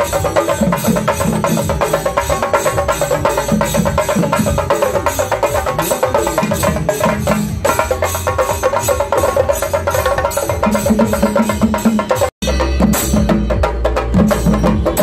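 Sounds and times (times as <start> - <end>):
fast procession drumming: 0.0 - 15.0.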